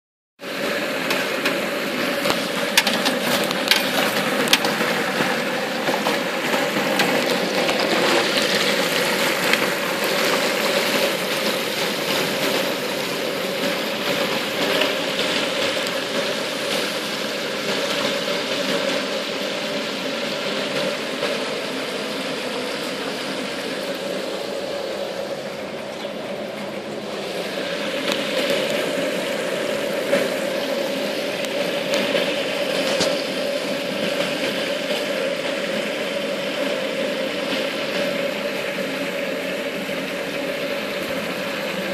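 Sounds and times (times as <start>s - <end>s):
gas burner roar: 0.4s - 41.9s
oil bubbling and crackling: 0.4s - 41.9s.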